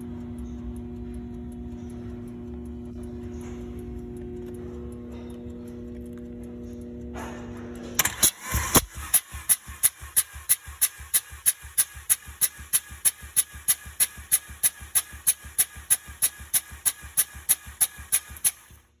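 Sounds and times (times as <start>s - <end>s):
engine cranked by starter: 2.4s - 19.0s.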